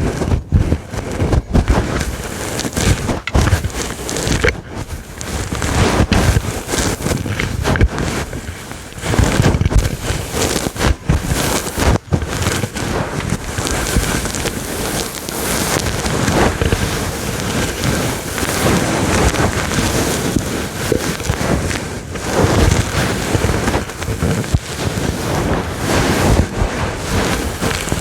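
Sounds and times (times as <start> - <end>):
scratching on furry microphone windscreen: 0.0 - 28.0.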